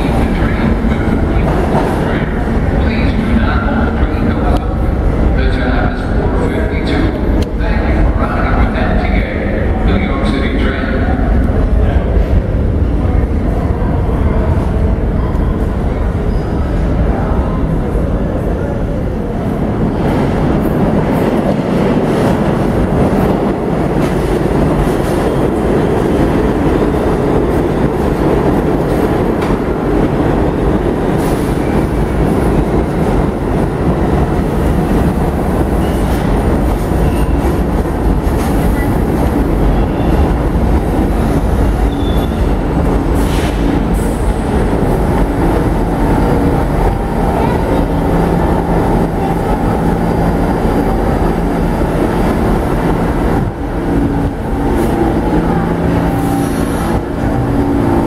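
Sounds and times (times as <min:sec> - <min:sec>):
subway trains rumbling: 0:00.0 - 0:58.0.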